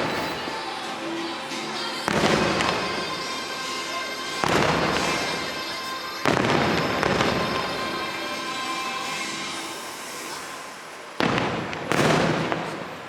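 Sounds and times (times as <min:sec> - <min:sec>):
music playing: 0:00.0 - 0:11.3
fireworks bursting with rumble: 0:00.0 - 0:13.0.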